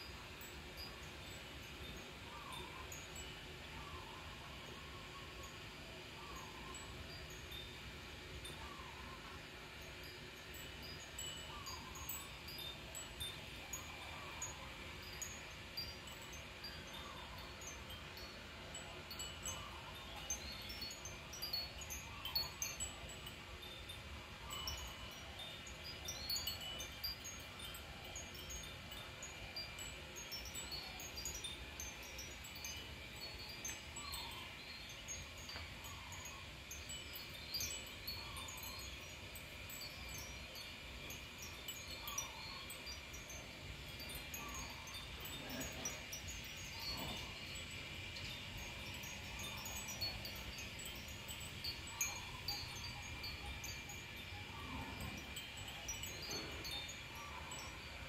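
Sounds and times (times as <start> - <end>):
faint steady high tone: 0.0 - 58.0
high tinkling notes: 0.0 - 58.0.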